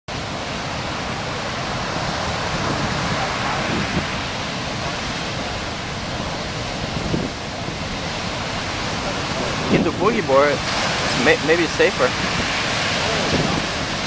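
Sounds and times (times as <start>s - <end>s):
heavy surf breaking: 0.1s - 14.0s.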